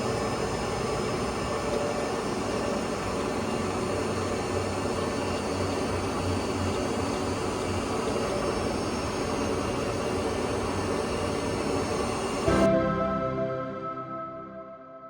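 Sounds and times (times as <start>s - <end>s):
lathe mechanical whirr: 0.0s - 12.5s.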